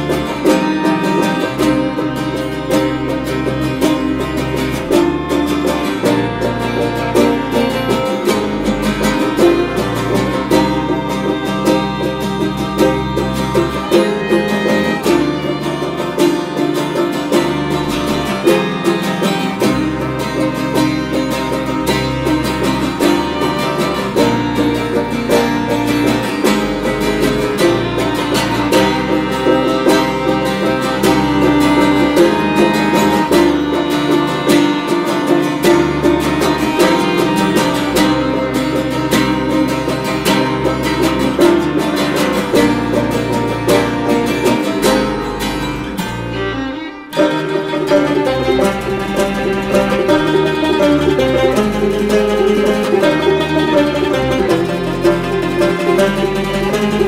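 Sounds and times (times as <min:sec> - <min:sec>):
low bass notes: 0:00.0 - 0:57.0
picked strings folk music: 0:00.0 - 0:57.0.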